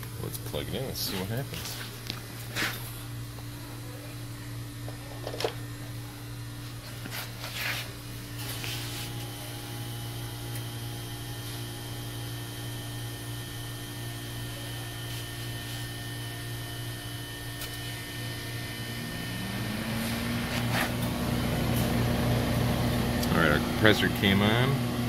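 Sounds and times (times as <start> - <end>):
compressor and fan starting up: 0.0 - 25.0
steady machine hum: 0.0 - 25.0.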